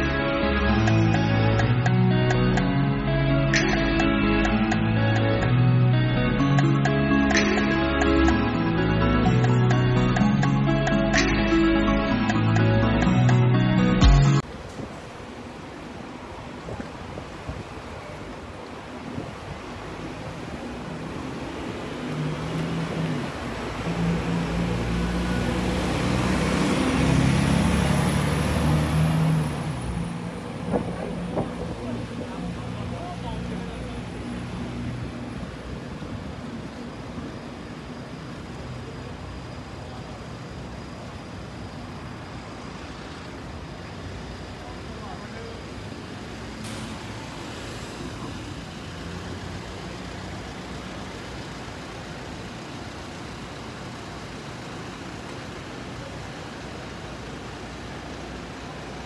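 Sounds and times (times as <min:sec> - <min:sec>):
city road traffic: 0:00.0 - 0:59.0
large vehicle engine humming: 0:00.0 - 0:59.0.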